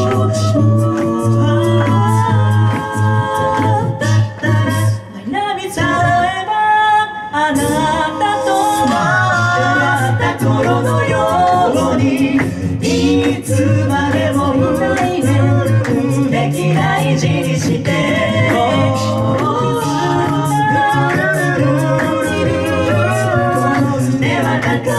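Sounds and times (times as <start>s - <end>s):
sung bass line: 0.0s - 5.0s, 8.8s - 24.9s
beatboxed percussion ticks: 0.0s - 6.1s, 8.6s - 24.9s
close vocal harmonies: 0.0s - 24.9s
female lead vocal: 0.0s - 24.9s.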